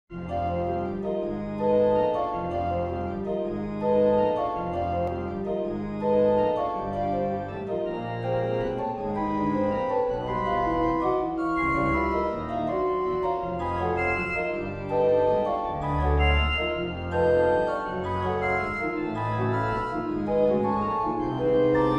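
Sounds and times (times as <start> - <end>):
pipe organ playing chords: 0.2 - 21.9.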